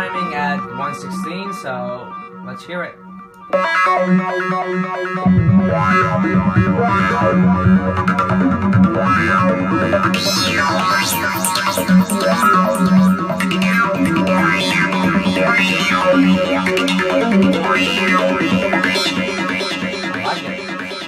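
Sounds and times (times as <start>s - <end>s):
arpeggiated synth pattern: 0.0s - 21.0s
sweeping high synth layers: 0.0s - 21.0s
pulsing kick and bass line: 3.1s - 21.0s.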